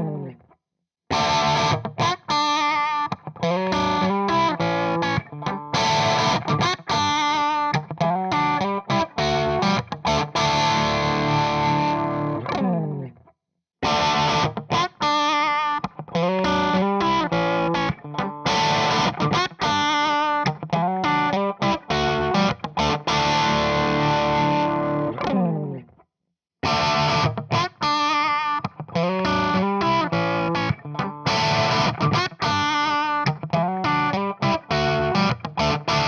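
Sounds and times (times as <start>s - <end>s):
distorted electric guitar chords: 1.1s - 13.1s, 13.8s - 25.8s, 26.6s - 36.0s.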